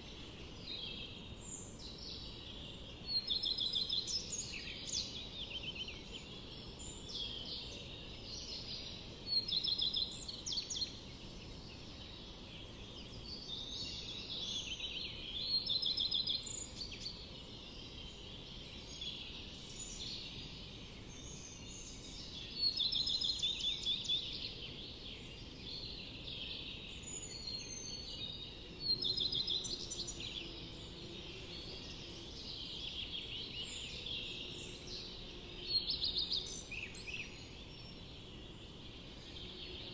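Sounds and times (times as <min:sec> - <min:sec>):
faint background hiss: 0:00.0 - 0:39.9
songbirds trilling: 0:00.0 - 0:39.9.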